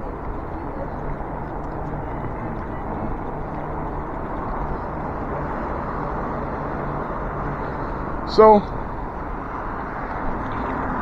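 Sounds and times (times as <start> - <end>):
road noise: 0.0 - 11.0
rushing wind: 0.0 - 11.0.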